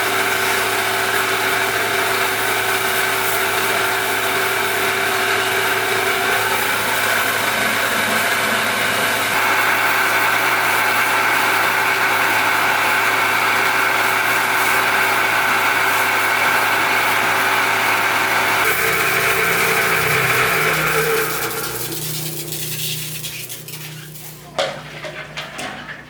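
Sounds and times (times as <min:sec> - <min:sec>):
machine humming: 0:00.1 - 0:24.6.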